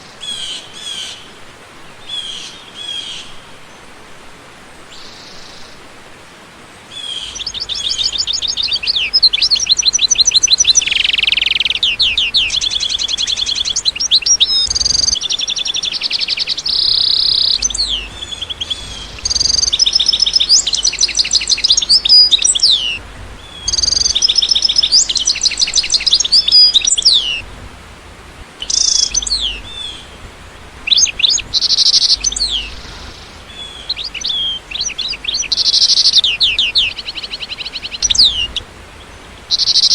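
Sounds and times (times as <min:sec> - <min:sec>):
bird trilling and chirping: 0:07.0 - 0:39.9.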